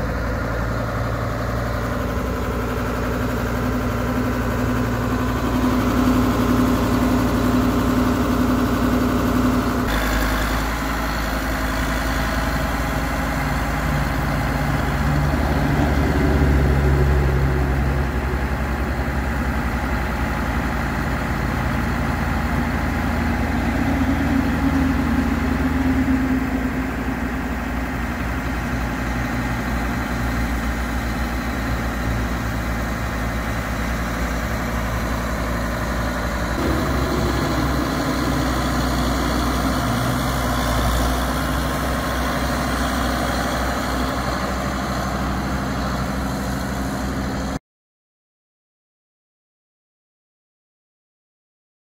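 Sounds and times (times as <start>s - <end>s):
loader bucket working: 0.0s - 47.6s
tractor diesel engine running: 0.0s - 47.6s.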